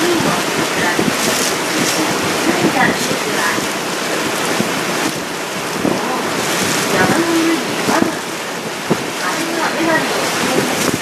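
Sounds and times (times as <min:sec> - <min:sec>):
water rushing past boat: 0:00.0 - 0:11.0
wind buffeting microphone: 0:00.0 - 0:11.0.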